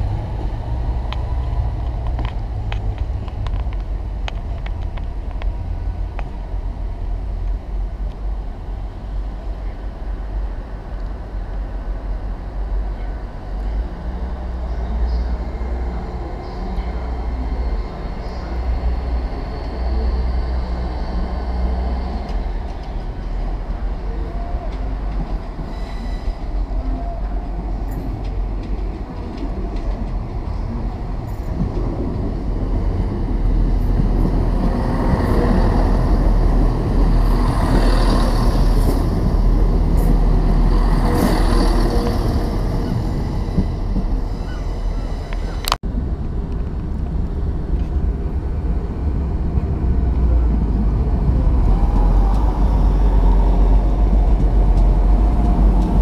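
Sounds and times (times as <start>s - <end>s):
low rumble of standing trains: 0.0s - 56.0s
train moving along platform: 0.0s - 56.0s.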